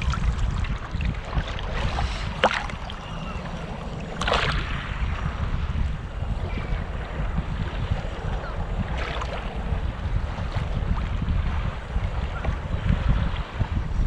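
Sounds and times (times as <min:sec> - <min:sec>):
water lapping against kayak: 0:00.0 - 0:14.0
wind buffeting microphone: 0:00.0 - 0:14.0.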